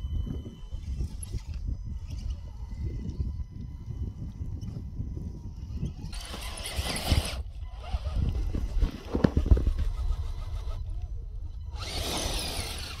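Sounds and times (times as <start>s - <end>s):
electric motor and gears whirring: 0.0s - 13.0s
wind rumble on microphone: 0.0s - 13.0s.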